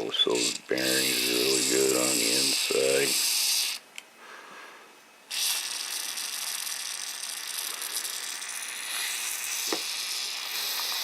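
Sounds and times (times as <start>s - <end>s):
aerosol can spraying: 0.3s - 3.8s, 5.3s - 11.0s.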